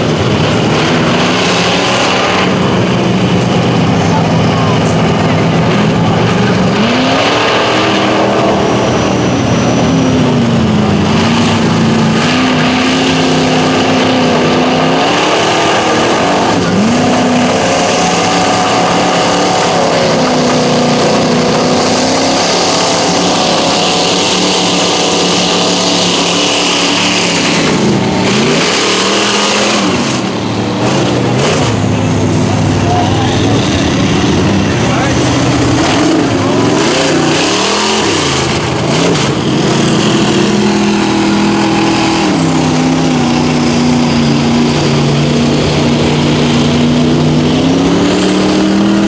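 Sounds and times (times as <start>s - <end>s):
truck engine revving: 0.0s - 49.0s.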